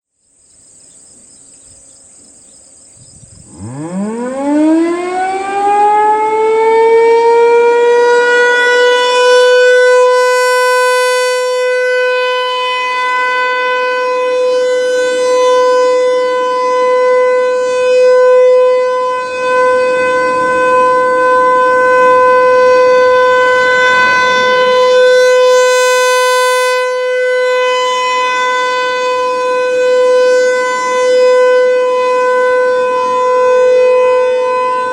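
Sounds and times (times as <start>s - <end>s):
warning siren winding up: 3.4s - 34.9s.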